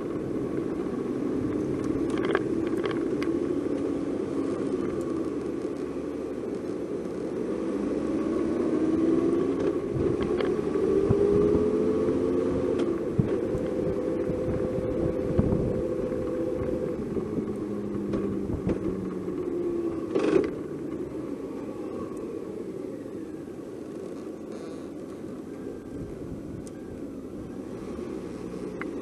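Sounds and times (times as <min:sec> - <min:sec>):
vehicle engine running: 0:00.0 - 0:25.4
road and wind noise: 0:00.0 - 0:29.0.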